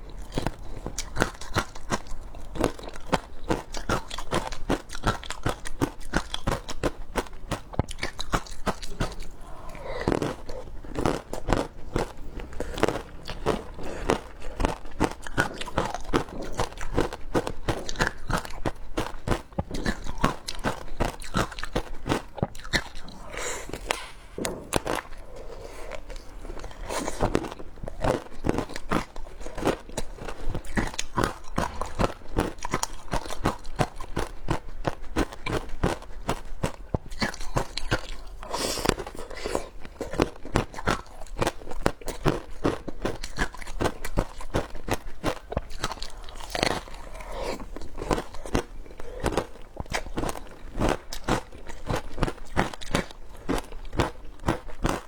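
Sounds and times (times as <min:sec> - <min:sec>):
crunching and chewing ice: 0:00.0 - 0:55.0.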